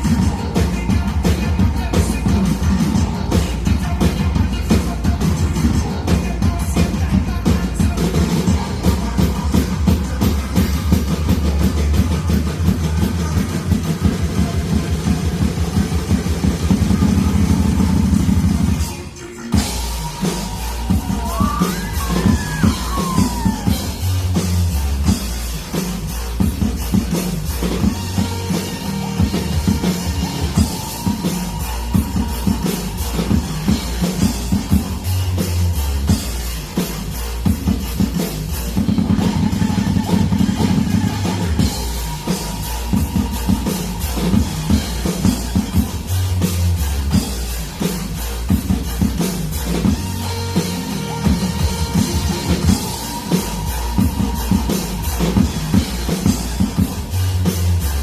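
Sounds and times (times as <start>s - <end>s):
cymbals: 0.0s - 58.0s
drum kit playing rock beat: 0.0s - 58.0s
rock backing track: 0.0s - 58.0s.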